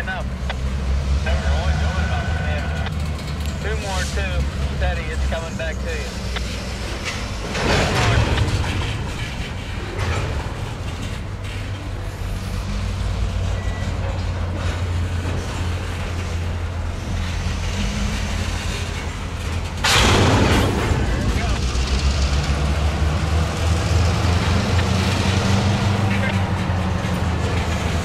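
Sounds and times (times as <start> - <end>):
freight cars rolling over rails: 0.0 - 28.0.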